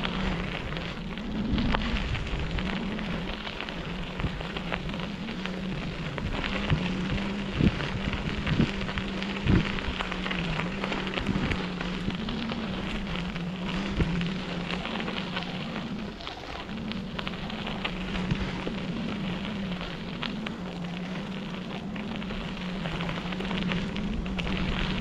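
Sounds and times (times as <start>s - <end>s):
bike tyres rolling on gravel: 0.0s - 25.0s
low wavering hum: 0.0s - 25.0s.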